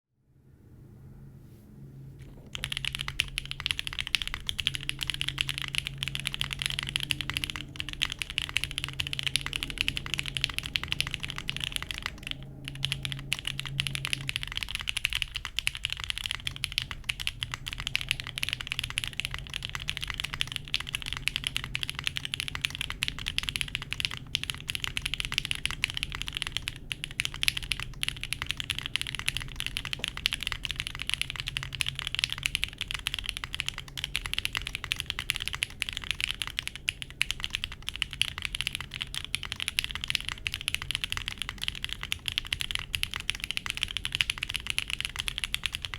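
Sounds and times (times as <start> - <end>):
fast typing on mechanical keyboard: 2.2 - 45.9.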